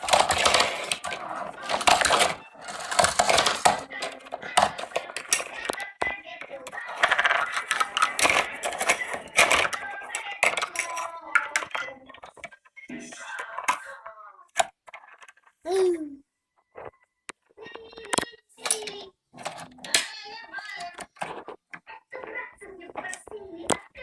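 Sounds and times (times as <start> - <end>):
plastic toys clattering: 0.0 - 15.7, 17.4 - 24.0.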